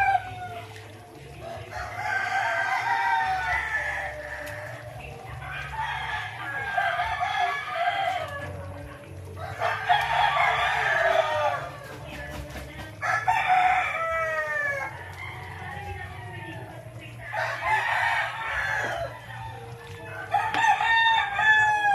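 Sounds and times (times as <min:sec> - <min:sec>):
rooster crowing: 0:00.0 - 0:00.8, 0:01.4 - 0:08.7, 0:09.4 - 0:11.9, 0:13.0 - 0:21.9.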